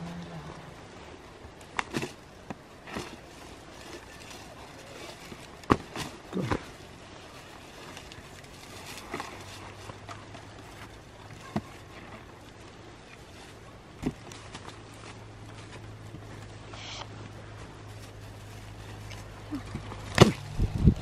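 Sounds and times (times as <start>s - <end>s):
bamboo tray rustling over leaves: 1.6s - 21.0s.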